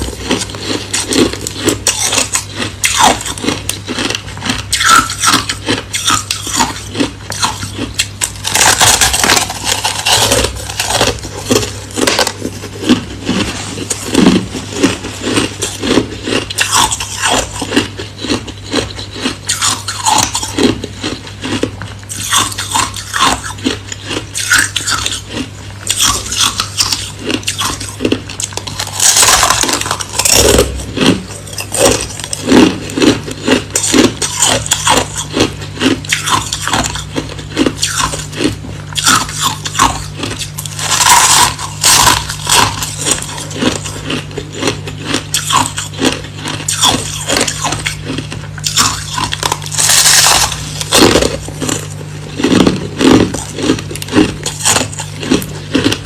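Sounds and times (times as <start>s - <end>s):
ice being chewed: 0.0s - 56.0s
steady low hum: 0.0s - 56.0s.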